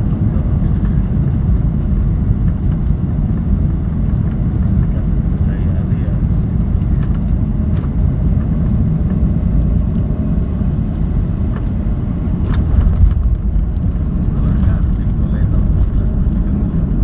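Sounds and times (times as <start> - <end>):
jet cabin deep rumble: 0.0 - 17.0.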